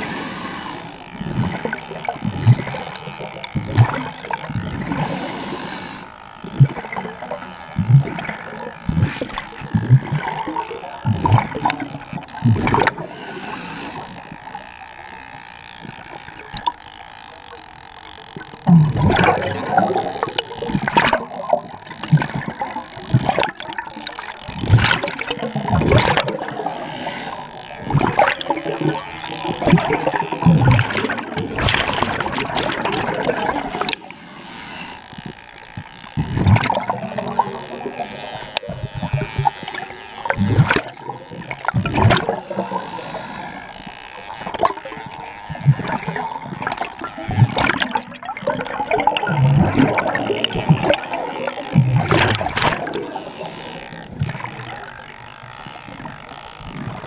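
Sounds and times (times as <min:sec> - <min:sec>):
gurgling underwater bubbles: 0:00.0 - 0:14.7, 0:18.4 - 0:34.2, 0:35.1 - 0:57.0.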